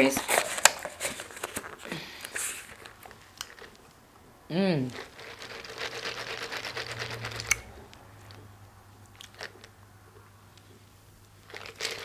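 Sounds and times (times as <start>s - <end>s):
biting and chewing: 0.0s - 12.0s.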